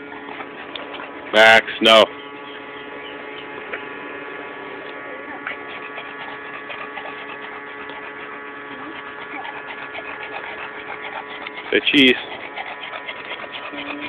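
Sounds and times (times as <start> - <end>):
steady multi-tone hum: 0.0 - 14.0.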